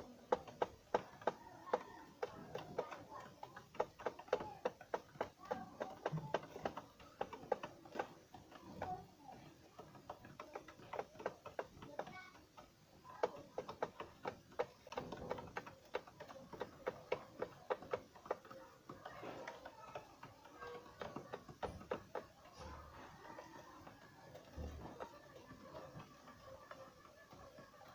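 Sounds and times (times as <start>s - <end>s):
quick irregular taps and clicks: 0.0s - 27.9s.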